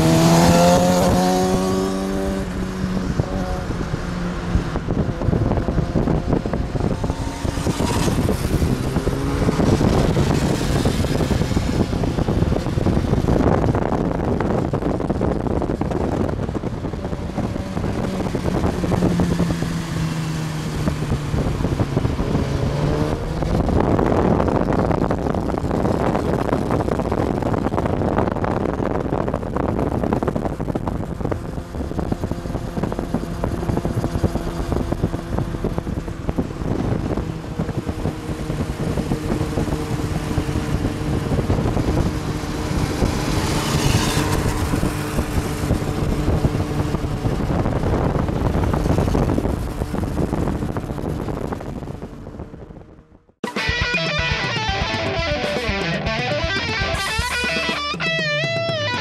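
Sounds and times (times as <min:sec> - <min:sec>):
motorcycle engines accelerating: 0:00.0 - 0:59.0
rushing wind noise: 0:00.0 - 0:59.0.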